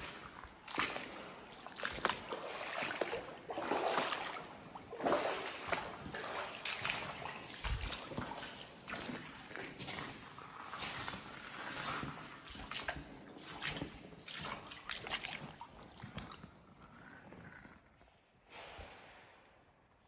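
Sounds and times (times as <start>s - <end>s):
splashing through shallow water: 0.0s - 16.4s.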